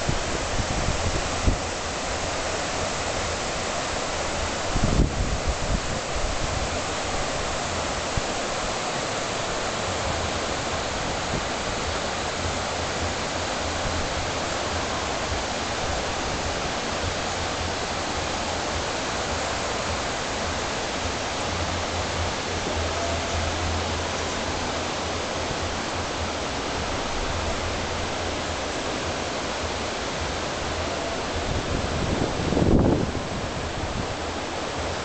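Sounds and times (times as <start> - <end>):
river water rushing over rapids: 0.0 - 35.0.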